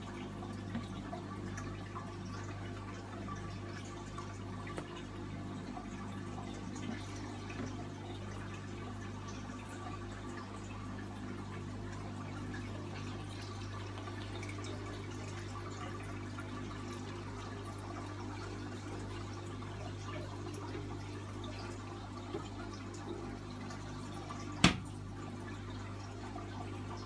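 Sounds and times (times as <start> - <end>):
aquarium filter humming: 0.0 - 27.0
water trickling and bubbling: 0.0 - 27.0.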